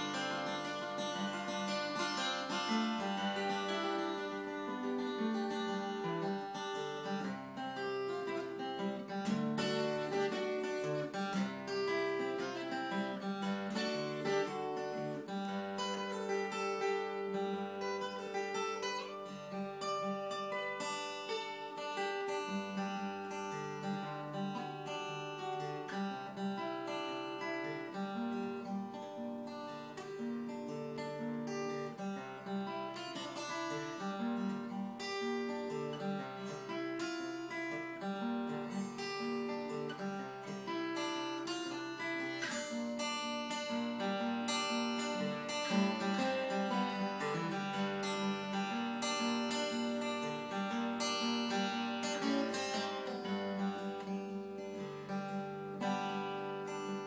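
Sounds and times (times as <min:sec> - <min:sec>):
fingerstyle acoustic guitar: 0:00.0 - 0:57.0.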